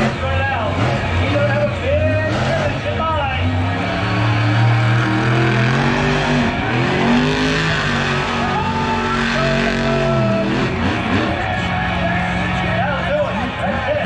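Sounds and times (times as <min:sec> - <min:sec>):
monster truck engines revving: 0:00.0 - 0:14.0.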